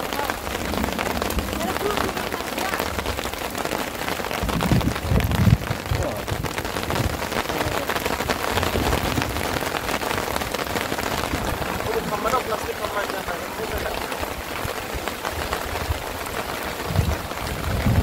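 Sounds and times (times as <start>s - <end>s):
rain drops on hard surface: 0.0s - 18.0s.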